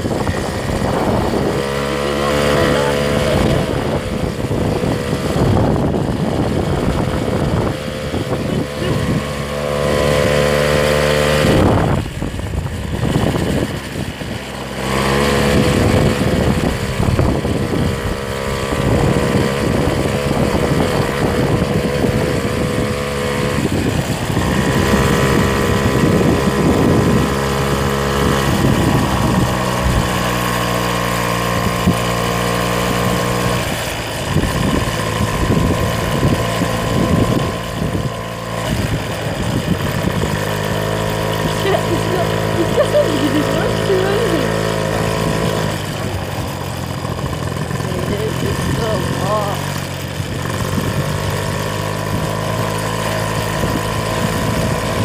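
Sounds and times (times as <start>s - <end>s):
vehicle engine under load: 0.0s - 55.0s.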